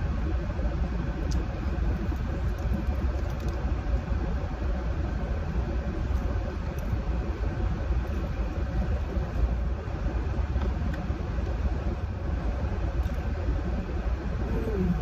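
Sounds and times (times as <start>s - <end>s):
air conditioning running: 0.0s - 15.0s.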